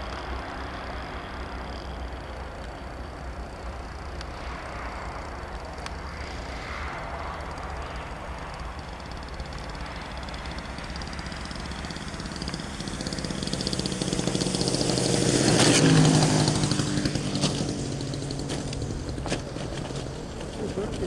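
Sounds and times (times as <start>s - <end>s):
model airplane engine buzzing: 0.0s - 21.0s.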